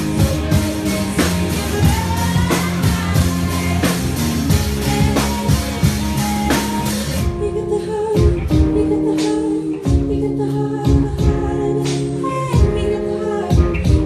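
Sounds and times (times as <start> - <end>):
steady drum beat: 0.0 - 7.6, 8.2 - 14.0
live pop-rock band playing: 0.0 - 14.0
woman singing into a microphone: 0.0 - 14.0.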